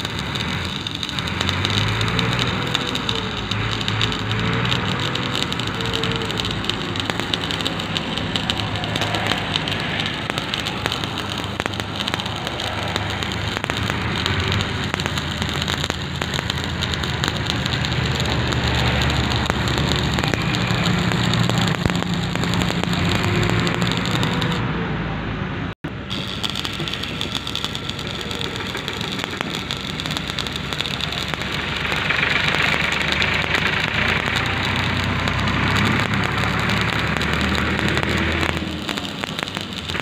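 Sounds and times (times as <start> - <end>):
welding arc crackling: 0.0 - 24.6, 25.8 - 40.0.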